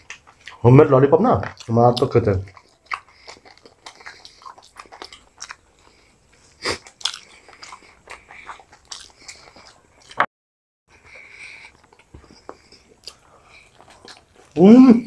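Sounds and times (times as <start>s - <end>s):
people biting and chewing crisp food: 0.0s - 0.7s, 1.3s - 10.3s, 10.9s - 15.0s.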